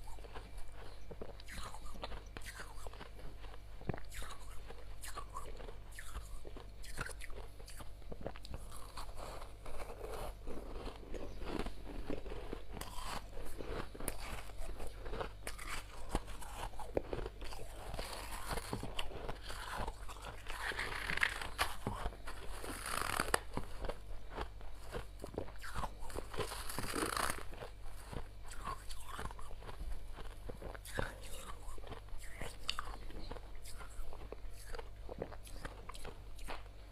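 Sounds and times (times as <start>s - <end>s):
frost crunching when chewed: 0.0s - 36.9s
steady low hum: 0.0s - 36.9s.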